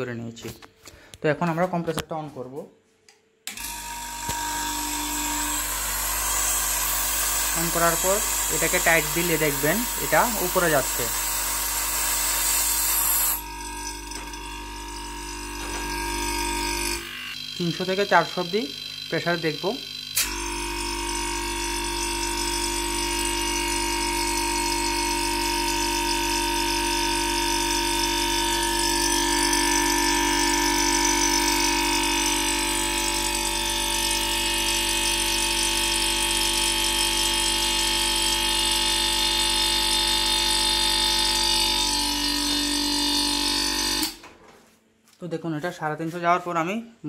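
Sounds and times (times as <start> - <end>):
compressor humming: 0.0 - 44.4.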